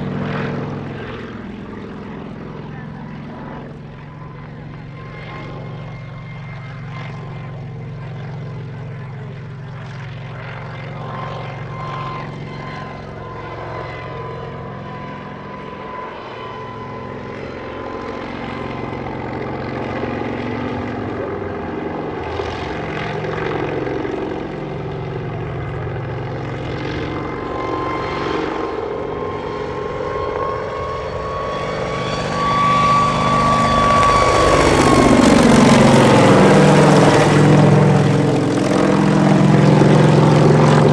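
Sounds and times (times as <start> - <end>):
helicopter flying overhead: 0.0 - 40.9.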